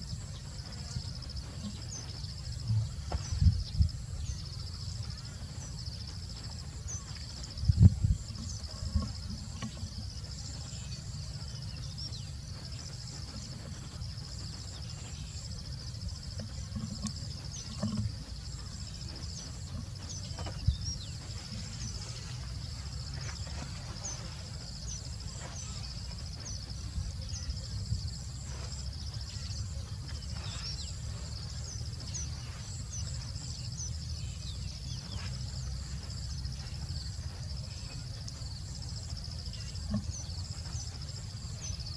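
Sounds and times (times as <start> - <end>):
constant low rumble: 0.0 - 41.9
insect chirps: 0.0 - 41.9
insects chorus: 0.0 - 41.9.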